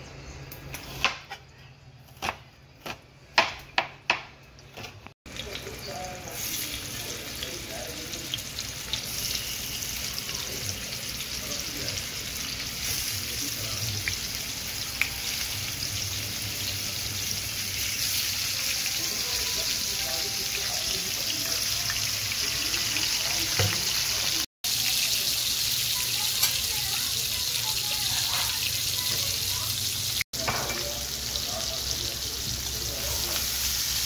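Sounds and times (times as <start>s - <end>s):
fish sizzling in oil: 4.7s - 34.0s.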